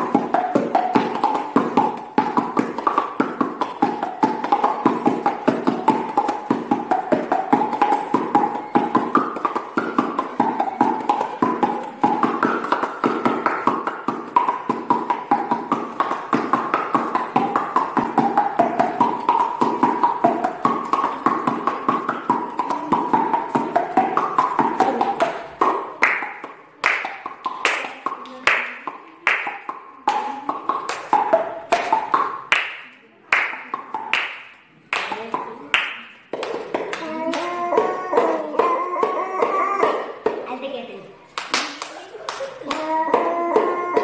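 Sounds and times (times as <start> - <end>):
hand slaps or claps: 0.0 - 40.6, 41.3 - 44.0
hand-and-mouth pitched pops: 0.0 - 40.8, 41.4 - 44.0.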